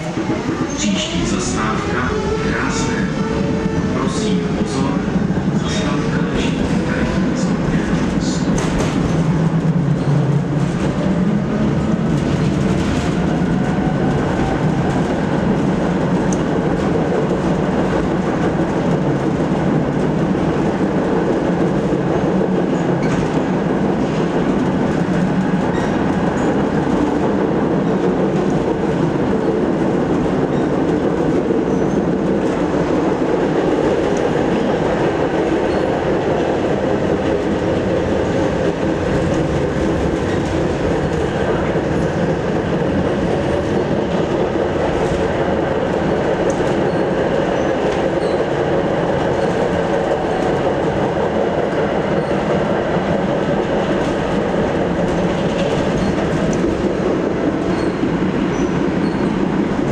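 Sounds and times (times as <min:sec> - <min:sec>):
steel wheels rumbling on rails: 0:00.0 - 0:59.9.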